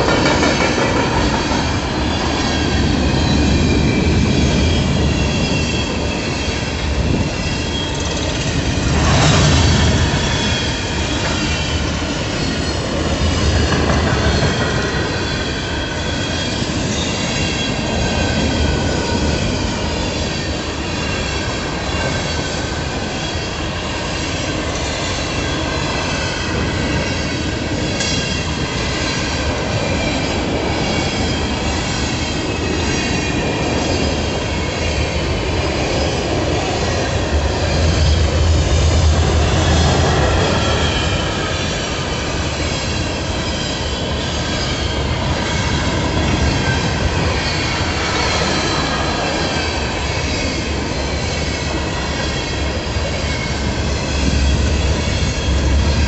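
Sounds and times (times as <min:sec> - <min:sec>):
freight cars rumbling on rails: 0:00.0 - 0:56.0
high squeal of train wheels: 0:00.0 - 0:56.0.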